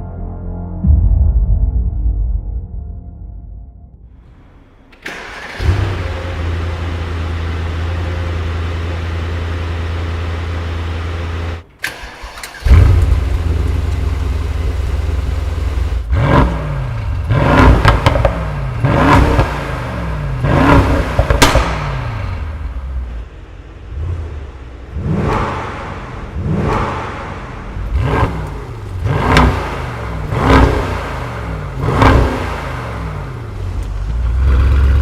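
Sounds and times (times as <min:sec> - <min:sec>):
car engine idling and revving: 0:04.2 - 0:35.0.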